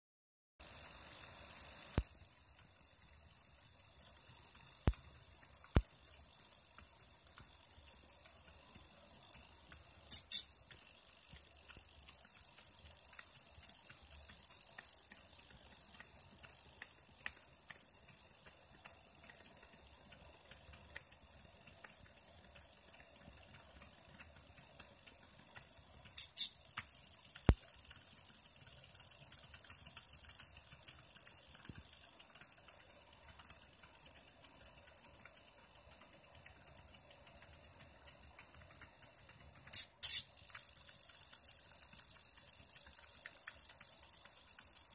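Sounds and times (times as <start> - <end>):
plotter ticking: 0.6 - 44.9
sharp clicks: 0.7 - 44.9.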